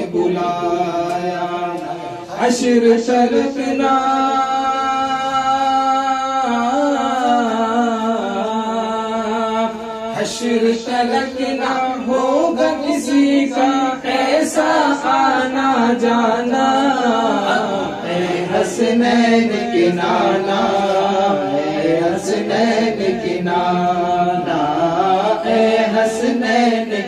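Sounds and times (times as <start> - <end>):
men singing a cappella chorus: 0.0 - 27.0.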